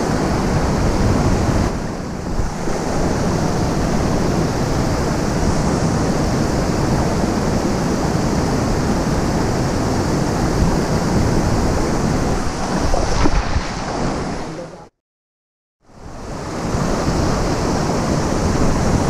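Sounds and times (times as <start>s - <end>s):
wind rumble on microphone: 0.0s - 14.9s, 15.9s - 19.0s.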